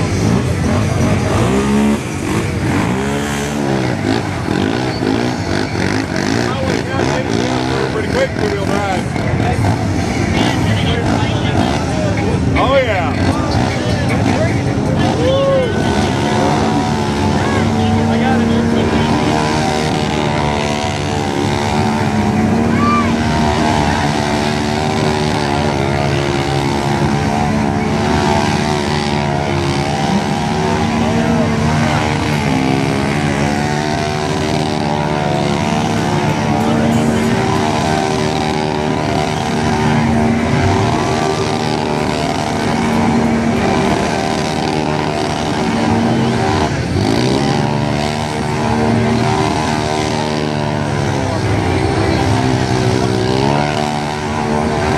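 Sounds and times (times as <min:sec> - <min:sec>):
quad engine revving: 0:00.0 - 0:54.9.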